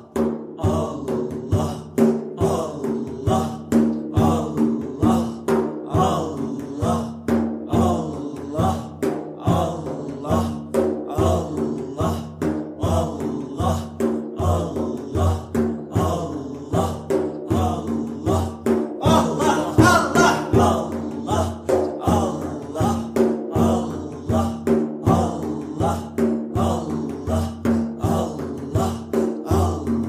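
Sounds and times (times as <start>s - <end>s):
rhythmic group chanting: 0.0s - 30.0s
steady drum beat: 0.0s - 30.0s.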